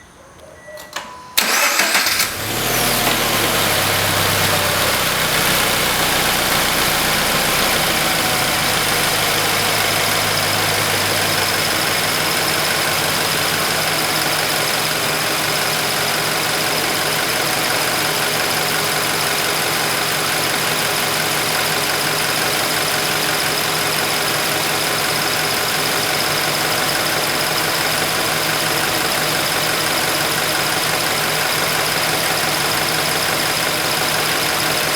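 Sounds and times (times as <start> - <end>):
car engine starting and idling: 0.9 - 34.9.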